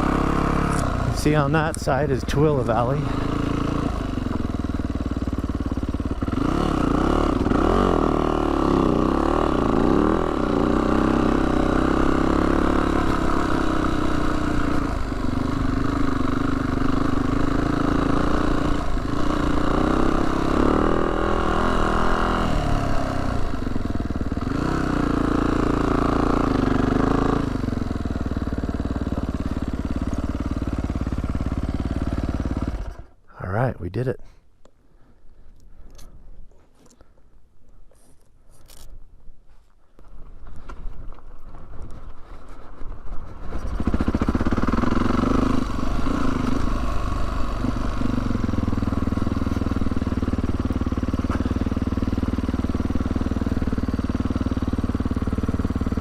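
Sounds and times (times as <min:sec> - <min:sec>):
dirt bike engine revving: 0:00.0 - 0:33.1, 0:43.6 - 0:56.0.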